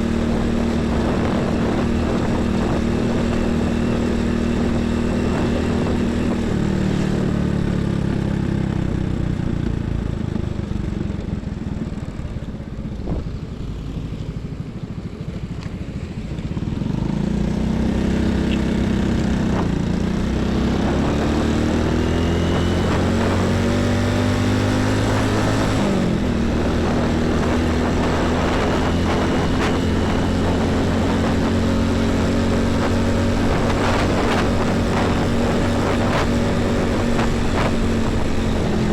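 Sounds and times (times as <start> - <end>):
trucks and buses passing: 0.0 - 38.9.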